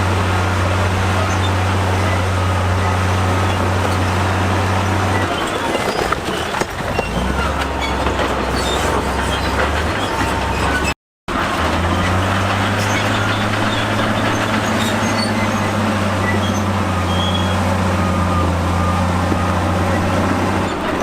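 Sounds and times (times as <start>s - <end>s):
diesel machinery engine running: 0.0s - 21.0s.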